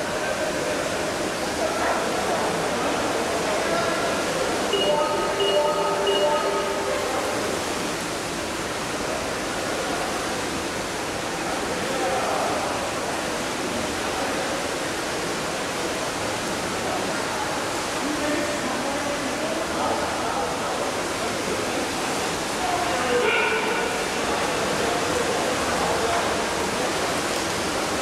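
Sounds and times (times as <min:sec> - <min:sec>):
rushing underwater water noise: 0:00.0 - 0:28.0.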